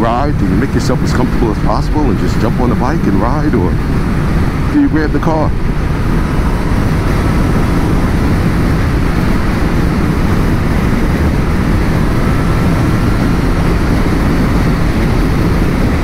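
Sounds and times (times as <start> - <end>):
motorcycle road and engine noise: 0.0 - 16.0
wind rushing over helmet microphone: 0.0 - 16.0.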